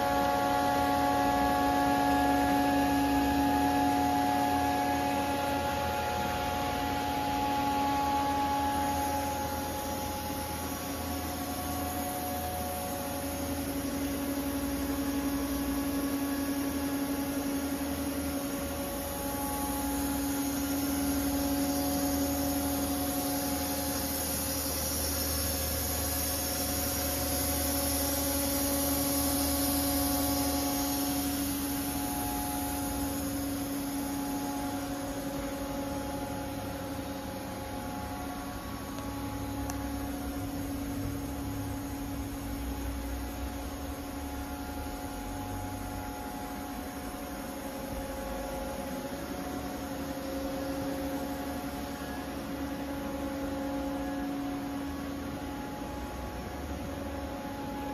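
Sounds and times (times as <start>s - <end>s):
machine hum: 0.0s - 57.9s
high hiss: 7.5s - 57.9s.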